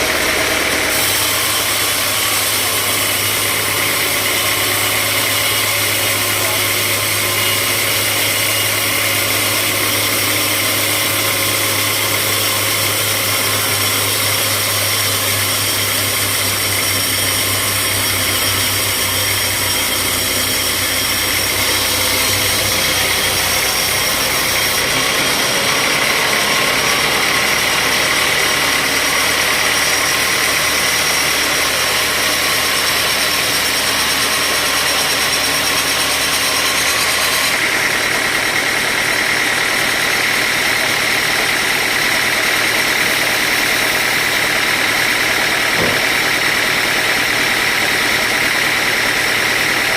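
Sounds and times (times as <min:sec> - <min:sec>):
high machine whine: 0:00.0 - 0:49.9
sawmill machinery hum: 0:00.0 - 0:49.9.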